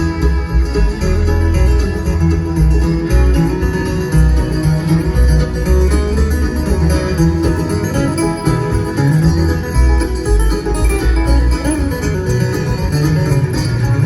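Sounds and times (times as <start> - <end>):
acoustic bluegrass band playing: 0.0 - 14.0
guitar picking: 0.0 - 14.0
steady pulsing bass: 0.0 - 14.0.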